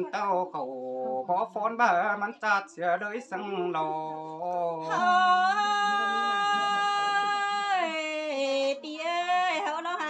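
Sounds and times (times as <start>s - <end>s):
person singing unaccompanied: 0.0s - 10.0s.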